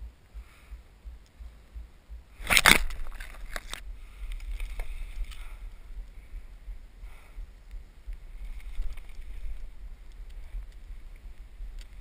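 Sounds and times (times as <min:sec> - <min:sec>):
soft low thumps: 0:00.0 - 0:12.0
undergrowth crackling: 0:02.2 - 0:12.0
leaves and brush rustling: 0:02.3 - 0:12.0.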